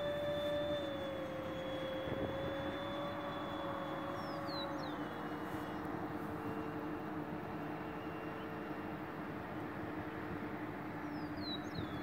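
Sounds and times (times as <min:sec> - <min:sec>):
distant electric fan whine: 0:00.0 - 0:12.0.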